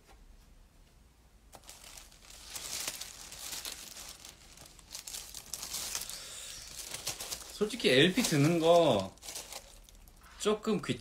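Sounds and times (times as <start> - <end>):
plastic sleeve crinkling: 1.5 - 11.0.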